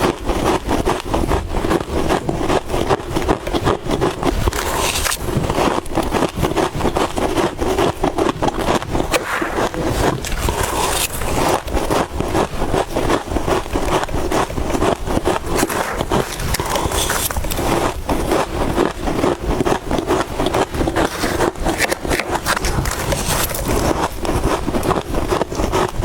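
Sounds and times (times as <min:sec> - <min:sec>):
frost being chewed with crunches: 0:00.0 - 0:26.0.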